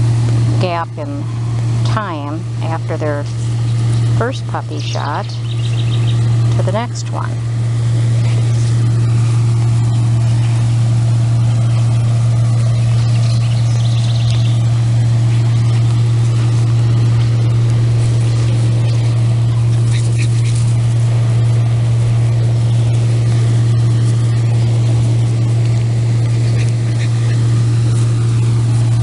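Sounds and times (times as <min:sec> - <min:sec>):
loud steady low hum: 0:00.0 - 0:29.0.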